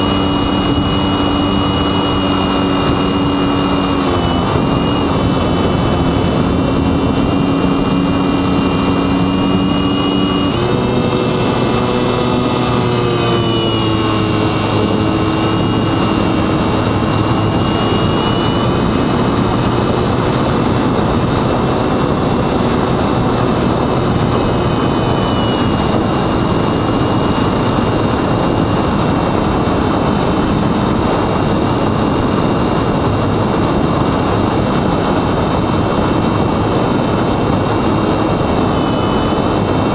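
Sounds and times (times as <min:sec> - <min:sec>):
electric motor whining: 0:00.0 - 0:39.9
wind rush: 0:00.0 - 0:39.9.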